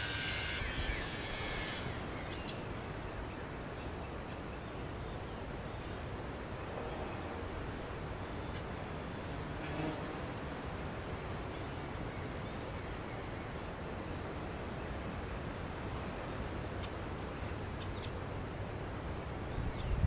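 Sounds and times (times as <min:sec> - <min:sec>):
small birds chirping: 0:00.0 - 0:06.8, 0:07.6 - 0:18.2
steady outdoor hiss: 0:00.0 - 0:20.0.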